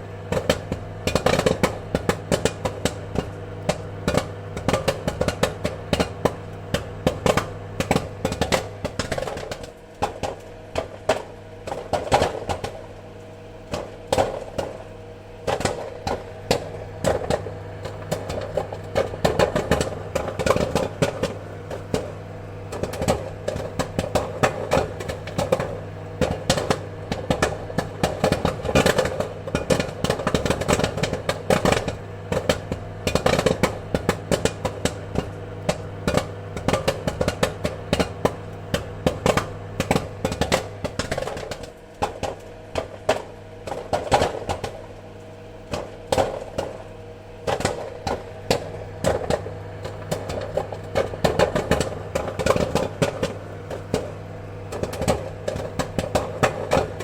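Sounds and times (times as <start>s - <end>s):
popcorn popping: 0.0s - 57.0s
steady low hum: 0.0s - 57.0s.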